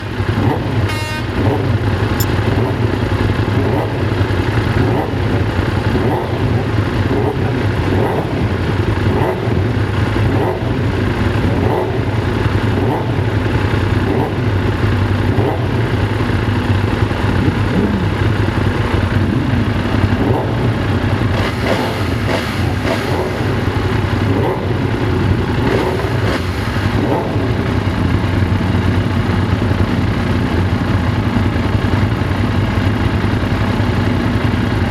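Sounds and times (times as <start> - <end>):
motorcycle engine running steadily: 0.0 - 34.9.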